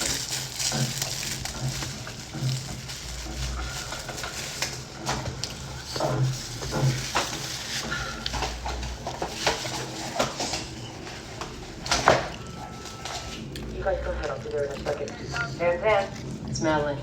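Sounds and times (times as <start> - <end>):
food handling rustles: 0.0 - 16.5
chewing: 0.0 - 17.0.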